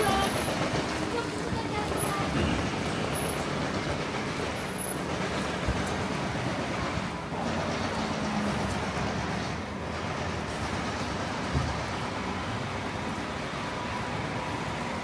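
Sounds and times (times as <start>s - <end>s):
traffic on wet road: 0.0s - 15.0s.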